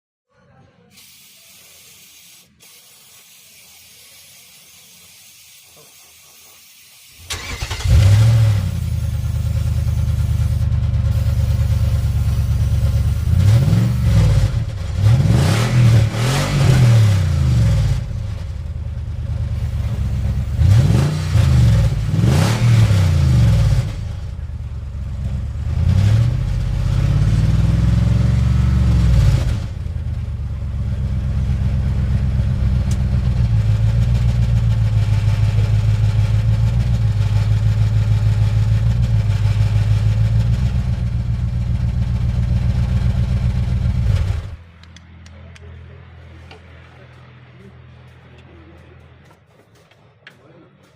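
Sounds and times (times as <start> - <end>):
car engine revving and idling: 7.3 - 49.4.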